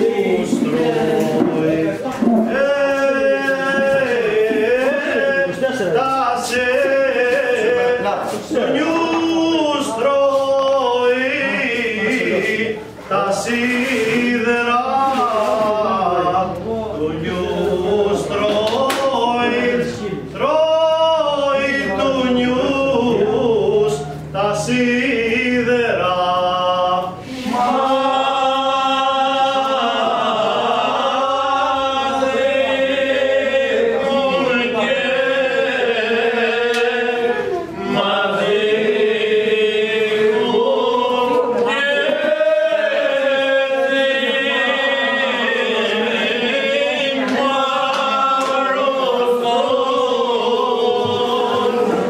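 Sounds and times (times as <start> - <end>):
men singing unaccompanied: 0.0 - 52.0.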